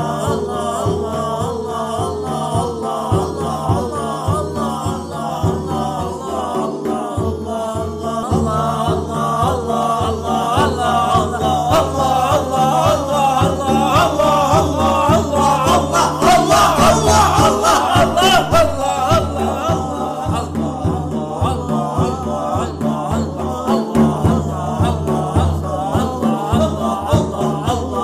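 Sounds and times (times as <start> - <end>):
ornamented sung melody: 0.0 - 28.0
voices chanting: 0.0 - 28.0.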